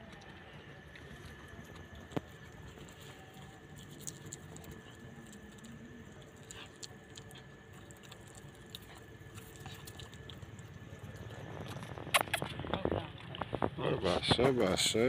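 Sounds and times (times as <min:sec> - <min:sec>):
puppy chewing food: 0:00.0 - 0:14.6.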